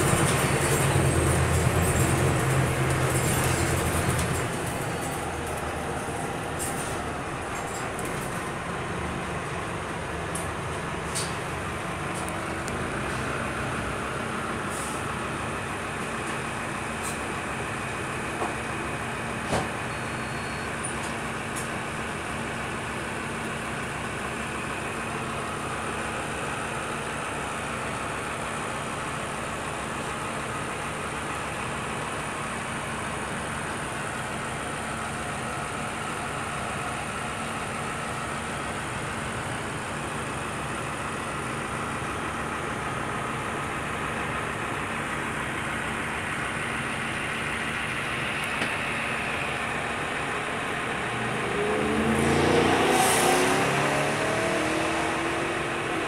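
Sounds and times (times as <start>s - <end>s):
bus engine drone inside cabin: 0.0s - 56.0s.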